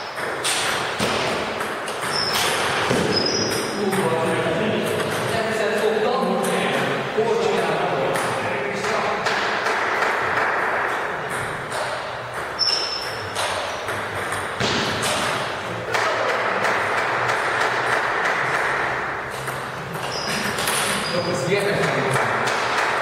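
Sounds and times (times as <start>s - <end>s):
steady background din: 0.0s - 23.0s.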